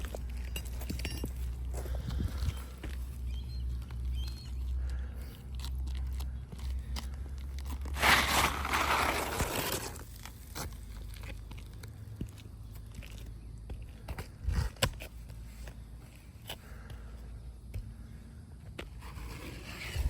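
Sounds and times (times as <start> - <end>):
crunching and scraping on shingle roof: 0.0 - 20.0.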